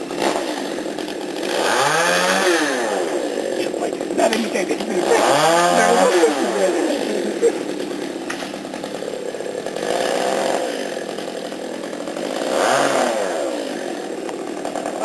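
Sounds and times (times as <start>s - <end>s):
chainsaw running in bursts: 0.0s - 15.0s.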